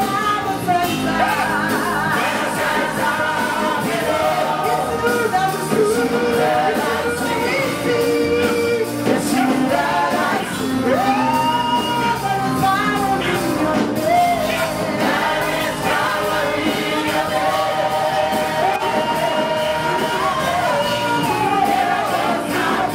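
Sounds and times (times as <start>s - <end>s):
band playing steady beat: 0.0s - 22.9s
singers singing gospel: 0.0s - 22.9s.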